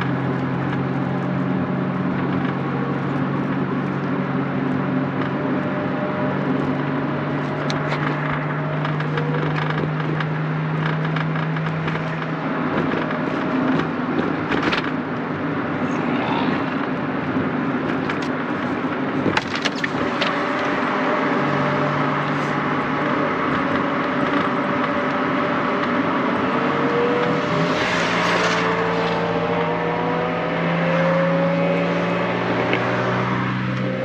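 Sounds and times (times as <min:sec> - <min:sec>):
car engine hum: 0:00.0 - 0:34.0
road noise: 0:00.0 - 0:34.0.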